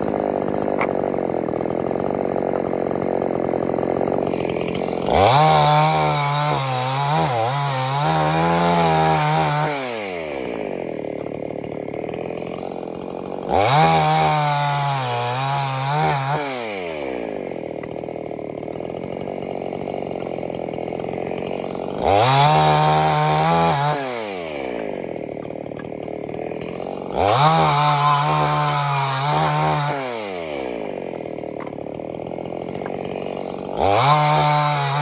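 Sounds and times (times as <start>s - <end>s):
chainsaw cutting wood boards: 0.0s - 35.0s
chainsaw idling and revving: 0.0s - 35.0s.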